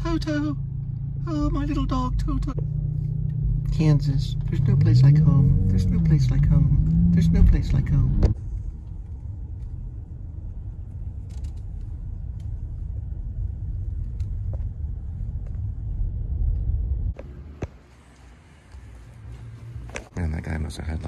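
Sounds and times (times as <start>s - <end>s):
car rumble from inside: 0.0s - 17.2s.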